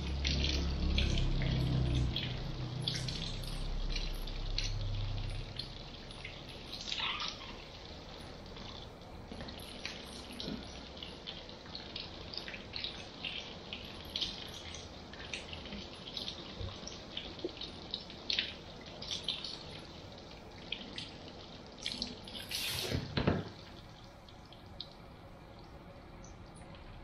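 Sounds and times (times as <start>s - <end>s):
shower water running onto hair: 0.0s - 25.0s
water dripping: 0.0s - 27.0s.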